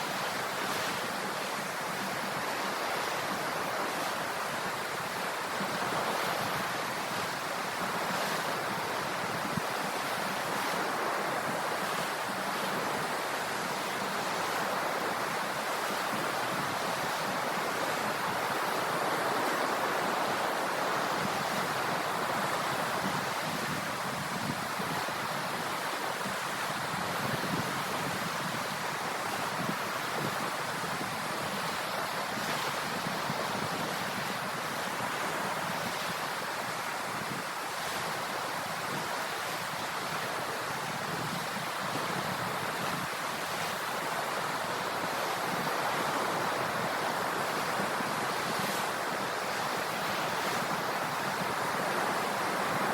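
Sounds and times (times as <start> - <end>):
sea waves washing onto shore: 0.0 - 52.9.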